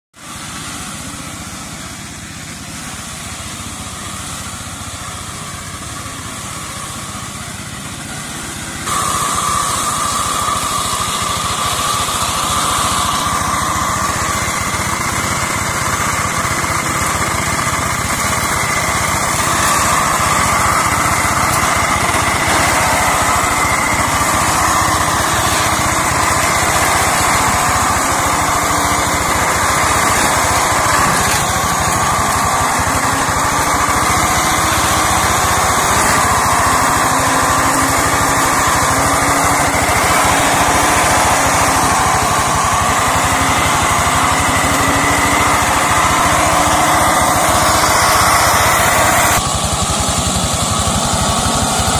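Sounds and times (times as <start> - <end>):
mower engine running under load: 0.1 - 51.9.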